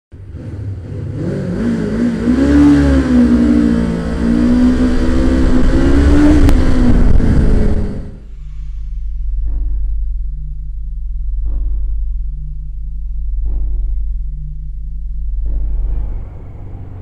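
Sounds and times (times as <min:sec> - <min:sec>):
low hum: 0:00.1 - 0:17.0
motorcycle engine revving: 0:00.1 - 0:17.0.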